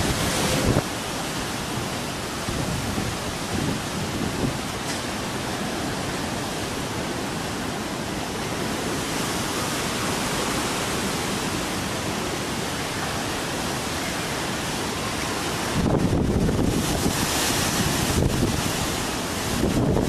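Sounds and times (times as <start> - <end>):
wind and heavy rain: 0.0 - 20.0.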